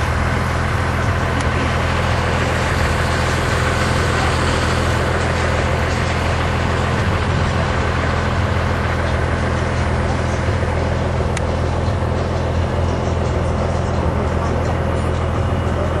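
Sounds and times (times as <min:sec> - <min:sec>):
rushing noise: 0:00.0 - 0:16.0
vehicle engine running: 0:00.0 - 0:16.0.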